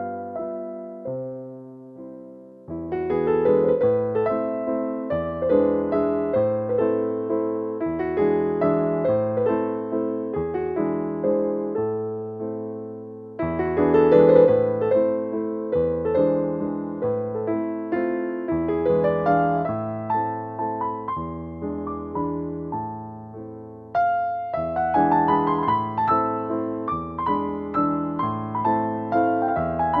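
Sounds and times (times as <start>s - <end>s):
gentle piano chords: 0.0s - 30.0s.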